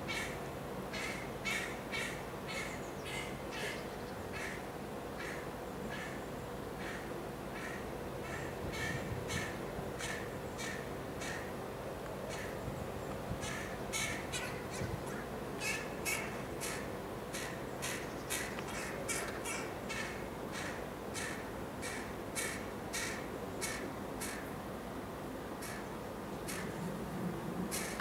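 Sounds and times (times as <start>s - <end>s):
crow begging caws: 0.1s - 6.2s, 6.8s - 11.5s, 12.3s - 12.6s, 13.4s - 24.5s, 25.6s - 26.8s, 27.7s - 28.0s.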